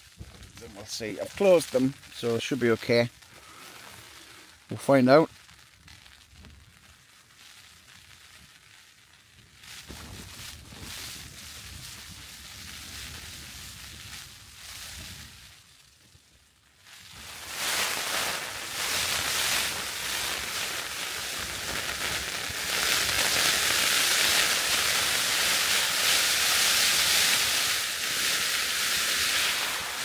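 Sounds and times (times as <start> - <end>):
heavy rain on tent fabric: 0.0 - 30.0.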